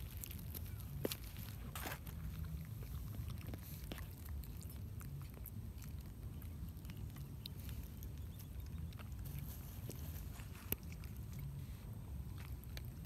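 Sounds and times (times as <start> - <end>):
low steady rumble: 0.0 - 13.0
monkeys eating fruit: 0.0 - 13.0.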